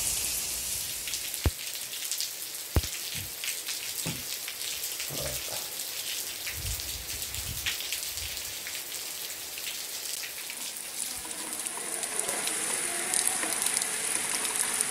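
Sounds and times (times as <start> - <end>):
rain falling on paving: 0.0 - 14.9.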